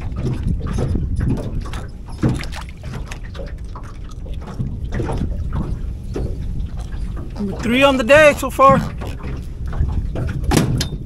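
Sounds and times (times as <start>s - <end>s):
low wind rumble: 0.0s - 11.0s
waves lapping against boat hull: 0.0s - 11.0s.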